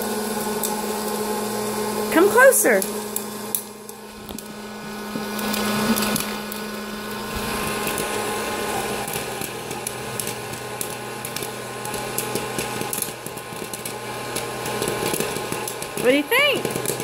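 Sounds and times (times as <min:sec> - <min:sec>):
popcorn popper fan whirring: 0:00.0 - 0:17.0
popcorn popping: 0:00.0 - 0:17.0.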